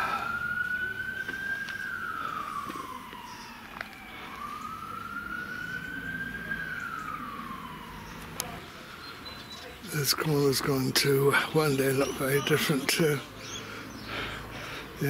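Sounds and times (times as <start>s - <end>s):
siren wailing: 0.0s - 13.3s.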